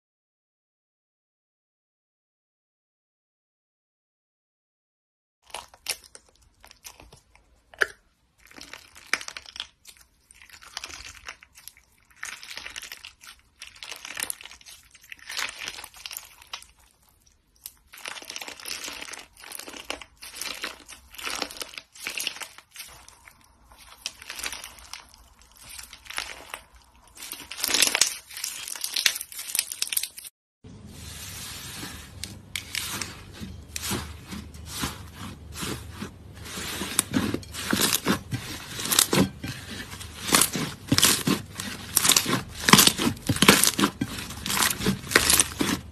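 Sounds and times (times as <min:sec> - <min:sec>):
slime crunching and crackling: 0:05.4 - 0:45.9.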